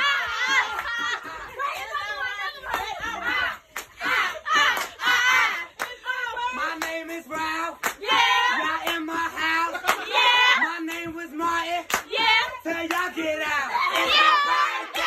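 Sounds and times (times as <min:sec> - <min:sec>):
loud singing: 0:00.0 - 0:15.0
hand clap keeping time: 0:00.5 - 0:15.0.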